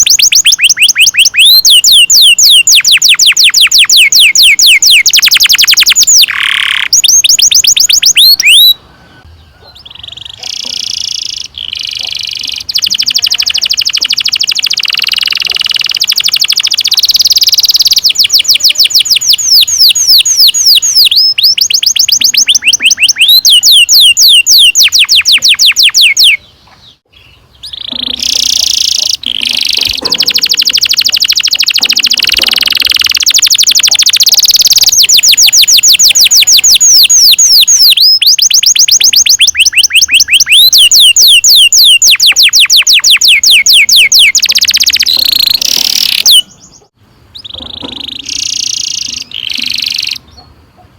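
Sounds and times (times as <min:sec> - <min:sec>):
canary singing rolling trills: 0:00.0 - 0:50.9.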